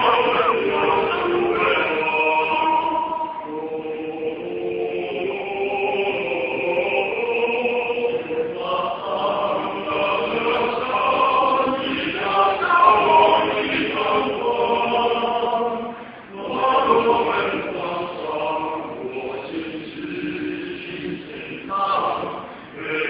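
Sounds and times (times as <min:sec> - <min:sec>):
male a cappella ensemble singing: 0:00.0 - 0:23.0.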